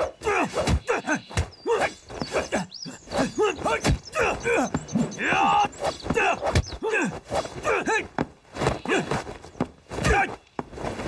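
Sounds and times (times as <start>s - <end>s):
fighters shouting and grunting: 0.0s - 9.3s, 10.0s - 10.4s.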